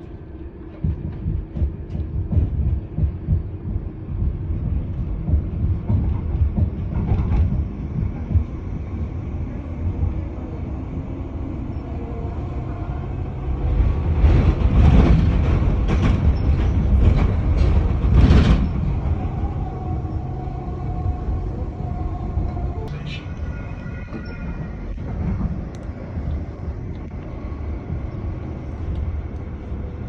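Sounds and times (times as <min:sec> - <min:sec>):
rushing rattling train noise: 0:00.0 - 0:30.0
train rumbling: 0:00.0 - 0:30.0.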